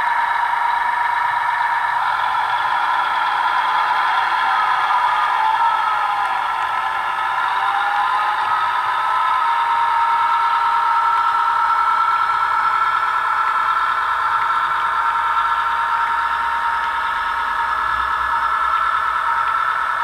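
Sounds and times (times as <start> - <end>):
thin engine drone from small speaker: 0.0 - 20.0.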